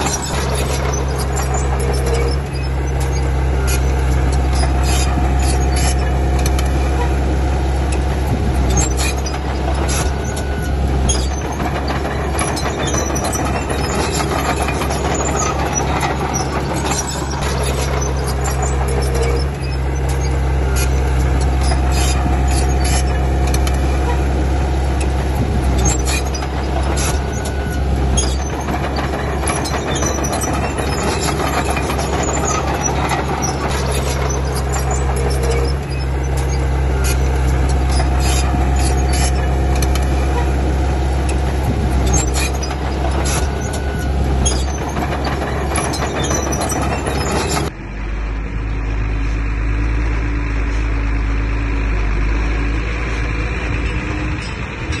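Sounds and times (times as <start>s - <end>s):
clicks and squeaks of steel tracks: 0.0s - 47.8s, 49.1s - 55.0s
bulldozer diesel engine running: 0.0s - 55.0s.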